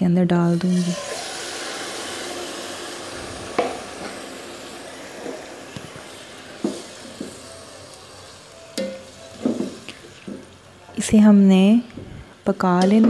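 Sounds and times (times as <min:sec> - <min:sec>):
chicken sizzling in hot oil: 0:00.4 - 0:11.7.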